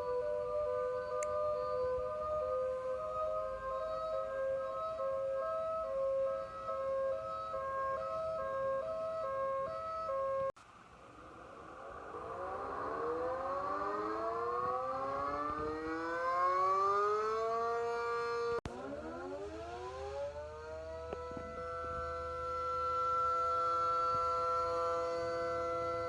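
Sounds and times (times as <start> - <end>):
tornado warning siren winding up: 0.0 - 10.5, 11.5 - 26.0.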